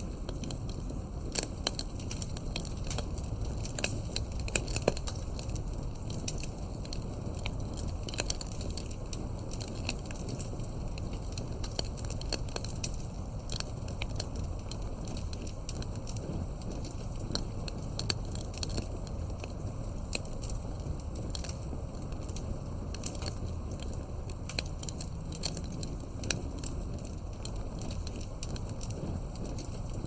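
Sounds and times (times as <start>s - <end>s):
campfire crackling and popping: 0.0s - 30.0s
fire low rumble: 0.0s - 30.0s.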